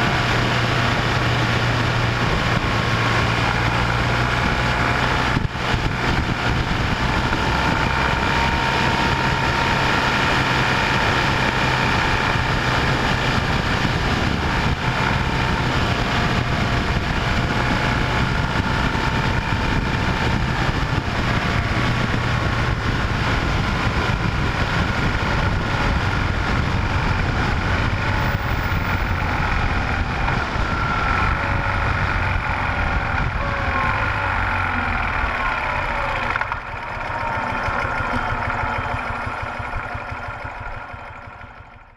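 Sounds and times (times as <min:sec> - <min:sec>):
vehicle engine drone: 0:00.0 - 0:41.9.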